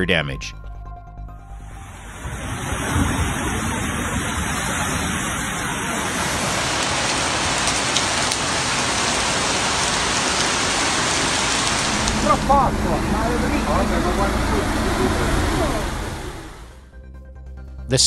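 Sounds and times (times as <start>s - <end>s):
heavy rain: 2.0s - 16.8s
flood water torrent rushing: 2.1s - 16.8s.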